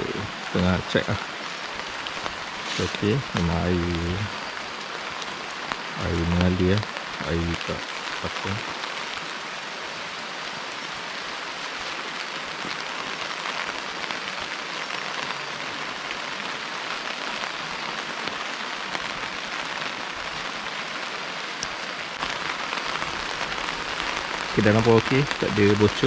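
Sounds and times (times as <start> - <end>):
rain pattering on tent fabric: 0.0 - 26.0.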